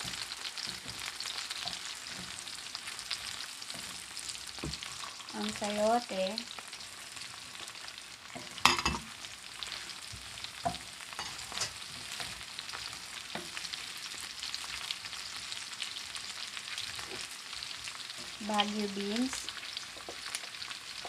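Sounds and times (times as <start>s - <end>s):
vegetables sizzling in a pan: 0.0s - 21.0s.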